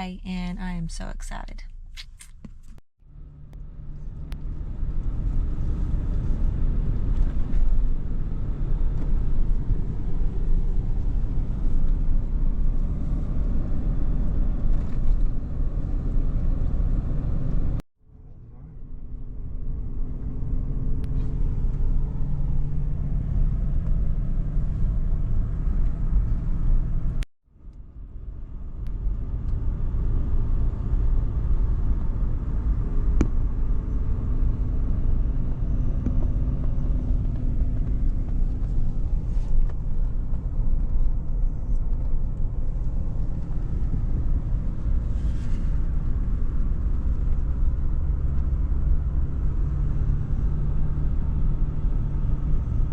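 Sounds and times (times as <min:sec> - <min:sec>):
moving car road rumble: 0:00.0 - 0:52.9.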